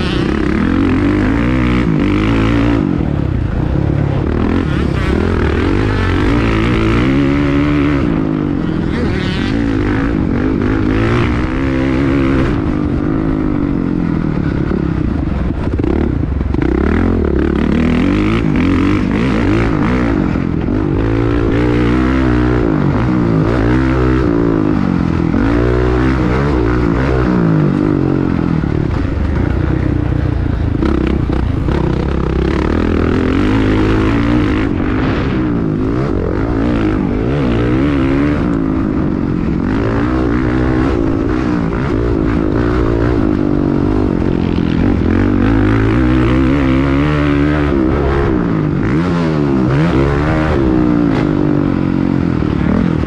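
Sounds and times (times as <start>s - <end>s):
dirt bike engine revving: 0.0s - 53.0s
steady rushing noise: 0.0s - 53.0s.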